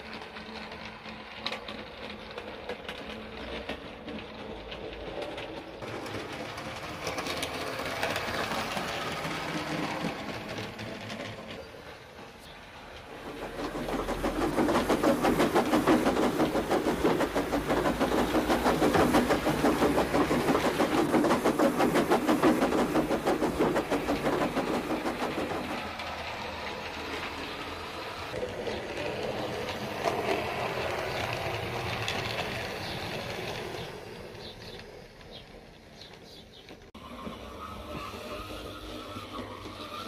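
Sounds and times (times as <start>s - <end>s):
model train wheels clicking: 0.0s - 40.0s.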